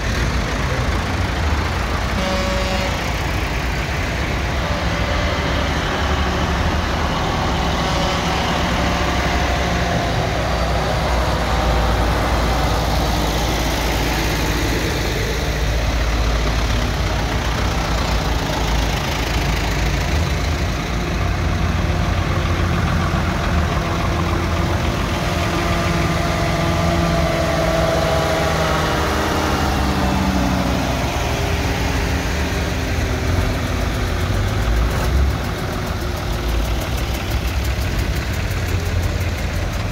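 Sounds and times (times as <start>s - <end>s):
tractor engines rumbling: 0.0s - 39.9s.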